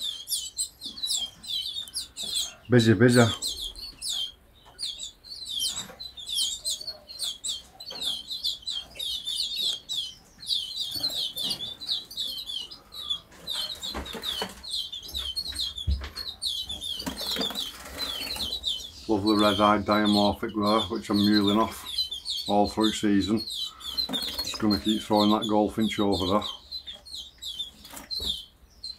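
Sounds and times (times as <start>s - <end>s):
caged birds chirping: 0.0s - 28.9s.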